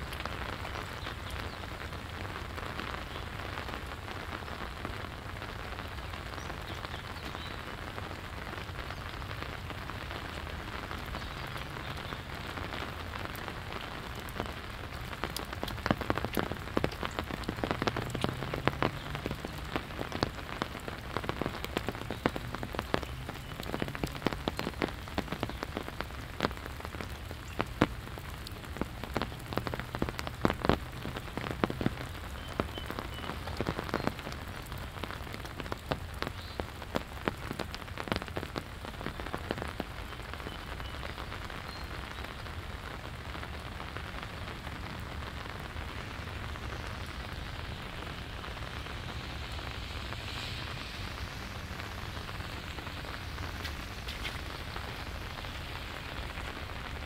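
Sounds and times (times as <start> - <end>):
close raindrops landing: 0.0 - 57.0
steady rain falling: 0.0 - 57.0.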